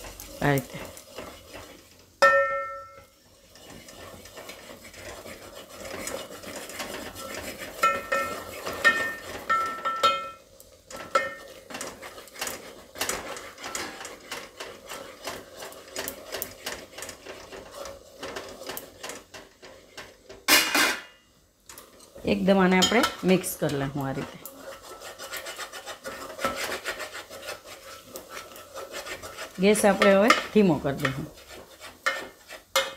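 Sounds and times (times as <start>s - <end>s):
utensil scraping metal pot: 0.0s - 21.1s, 21.7s - 32.9s.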